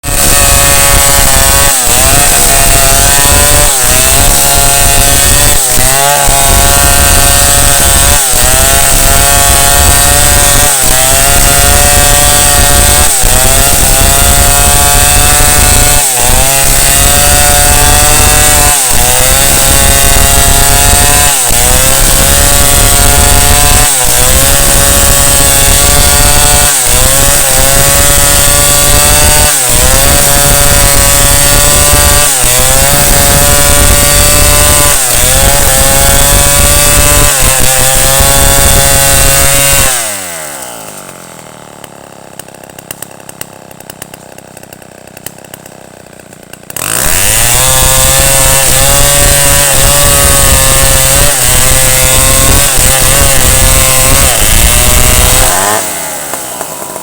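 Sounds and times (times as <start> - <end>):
chainsaw cutting through tree: 0.0 - 57.0.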